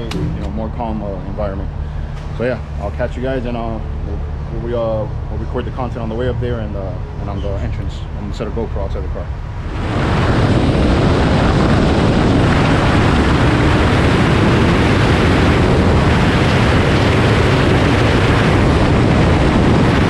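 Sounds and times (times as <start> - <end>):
wind rush and road noise: 0.0 - 20.0.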